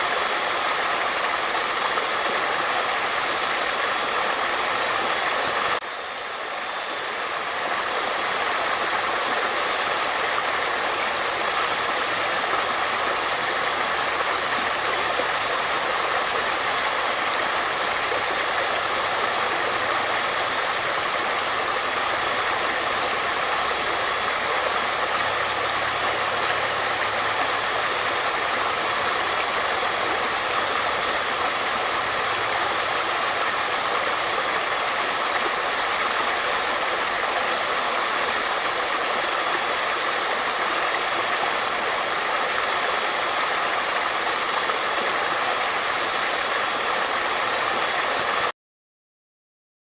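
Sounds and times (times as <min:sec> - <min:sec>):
water rushing: 0:00.0 - 0:48.5.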